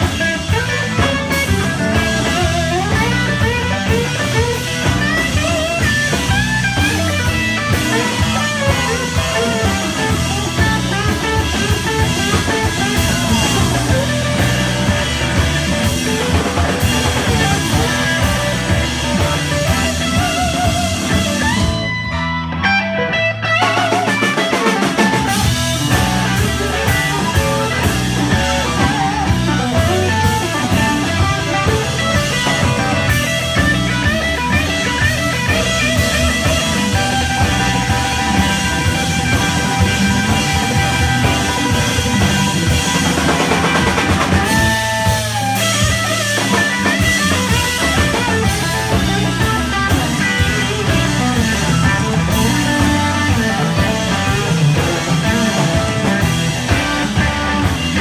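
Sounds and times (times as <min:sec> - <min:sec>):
drum kit: 0:00.0 - 0:58.0
electric bass: 0:00.0 - 0:58.0
electric guitar lead lines: 0:00.0 - 0:58.0.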